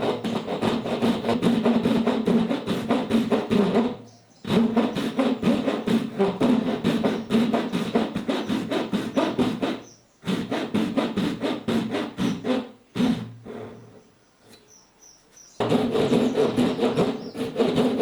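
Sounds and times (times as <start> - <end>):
hand tool strokes on wood: 0.0 - 14.0, 15.6 - 18.0.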